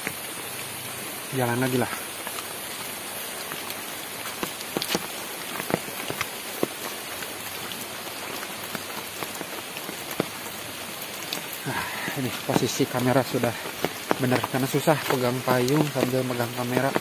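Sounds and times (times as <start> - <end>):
raindrops tapping on umbrella: 0.0 - 17.0
steady rain: 0.0 - 17.0.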